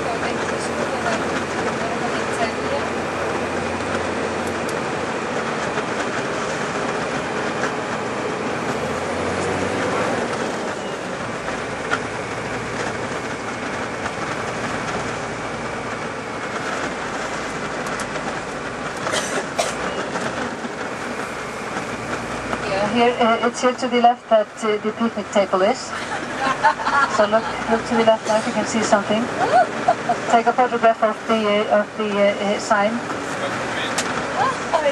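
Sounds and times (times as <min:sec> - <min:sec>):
rumbling bus cabin noise: 0:00.0 - 0:34.9.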